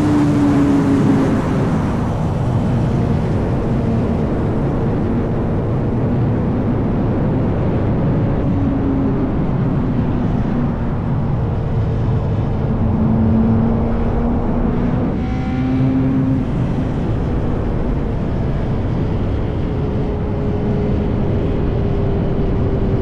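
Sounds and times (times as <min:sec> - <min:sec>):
motorcycle engine cruising: 0:00.0 - 0:23.0
road noise: 0:00.0 - 0:23.0
wind noise: 0:00.0 - 0:23.0.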